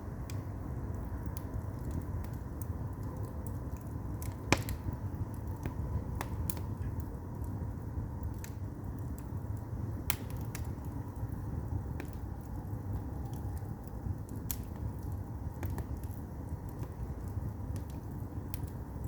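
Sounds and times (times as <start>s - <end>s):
burning wood crackling and popping: 0.0s - 19.0s
fire rumbling in a firebox: 0.0s - 19.0s.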